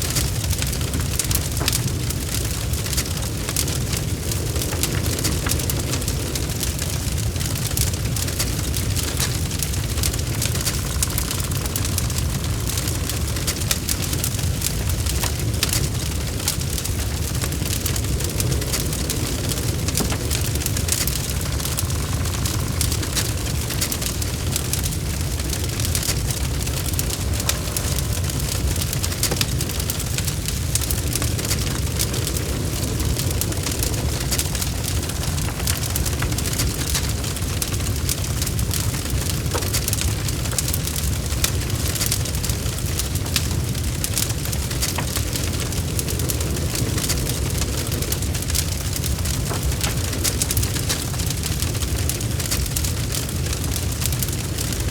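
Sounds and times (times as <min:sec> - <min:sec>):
log fire crackling: 0:00.0 - 0:54.9.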